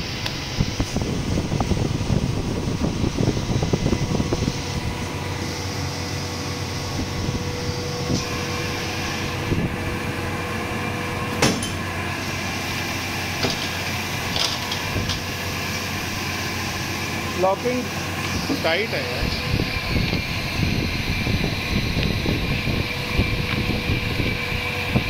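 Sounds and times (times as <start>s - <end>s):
injection moulding machine hum: 0.0s - 25.0s.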